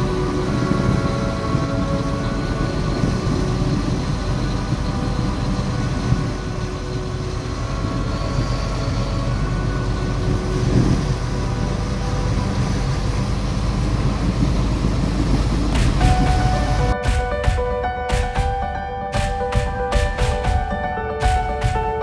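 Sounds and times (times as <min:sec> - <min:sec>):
truck engine drone: 0:00.0 - 0:22.0
tyre and road noise: 0:00.0 - 0:22.0.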